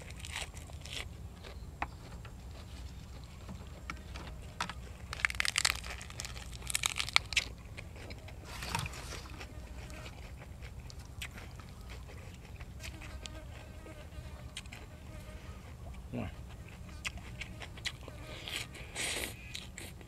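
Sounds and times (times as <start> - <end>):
person chewing food: 0.0 - 15.0, 15.7 - 20.0.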